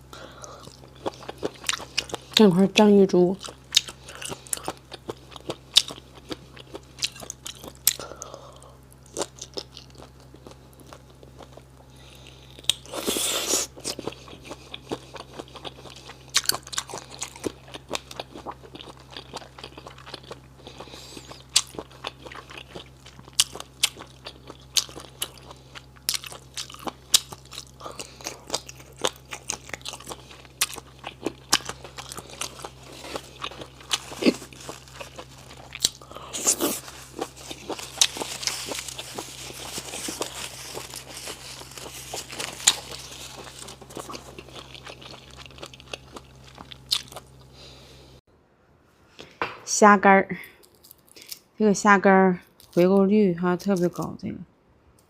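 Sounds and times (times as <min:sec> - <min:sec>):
chewing with sharp crunches: 0:00.4 - 0:47.8.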